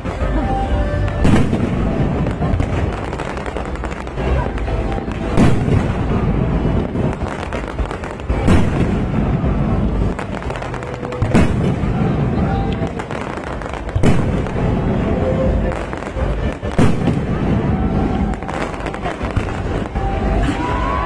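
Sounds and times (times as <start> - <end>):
fireworks booming: 0.0 - 21.0
fireworks crackling: 0.0 - 21.0
low rumble: 0.0 - 21.0.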